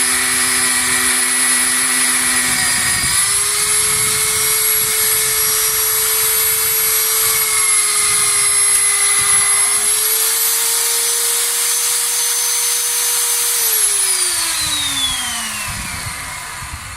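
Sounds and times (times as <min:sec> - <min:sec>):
drill motor whining: 0:00.0 - 0:16.9.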